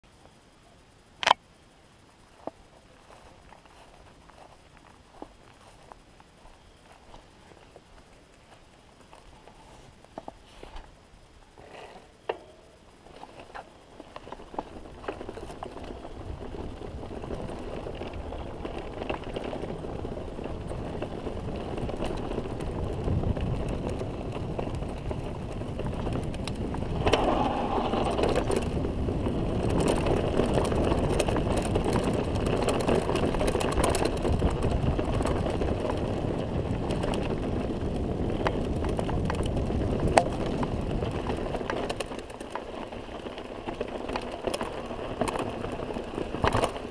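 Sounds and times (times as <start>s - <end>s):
bike clicks and rattles: 0.1s - 46.9s
tyres rolling over dirt: 2.4s - 46.9s.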